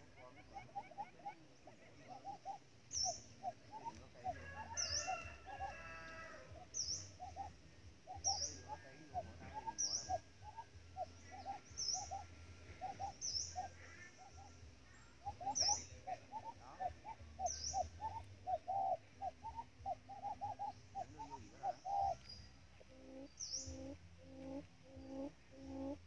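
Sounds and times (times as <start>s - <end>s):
bird hooting: 0.0s - 26.0s.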